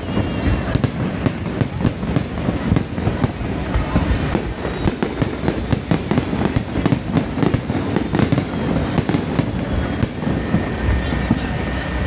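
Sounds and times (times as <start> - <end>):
fireworks bangs and crackles: 0.0 - 12.0
steady rumble: 0.0 - 12.0.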